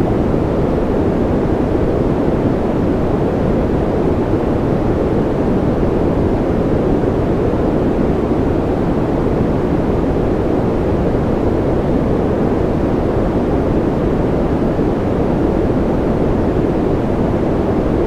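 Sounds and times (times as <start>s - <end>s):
white noise: 0.0s - 18.0s.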